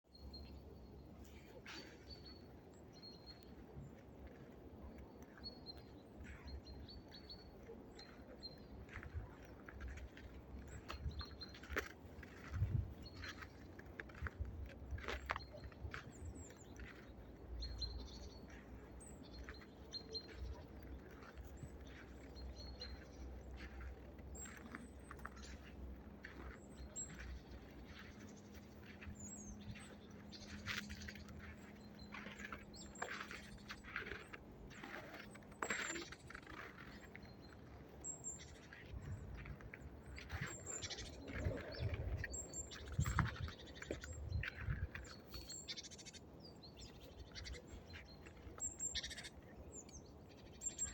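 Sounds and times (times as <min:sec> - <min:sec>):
small songbirds chirping: 0:00.0 - 0:50.9.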